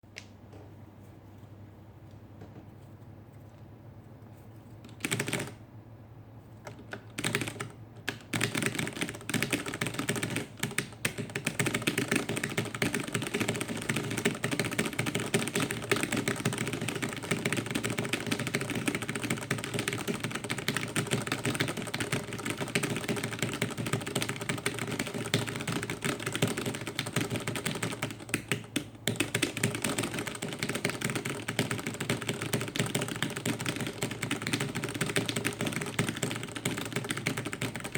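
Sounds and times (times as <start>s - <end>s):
rapid keyboard typing: 4.8s - 5.6s, 6.6s - 37.9s.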